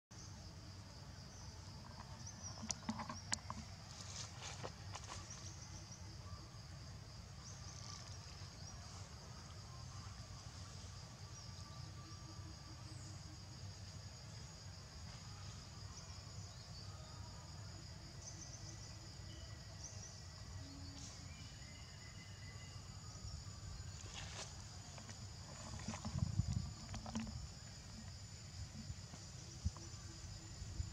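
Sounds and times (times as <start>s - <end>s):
high-pitched insect chorus: 0.1s - 30.9s.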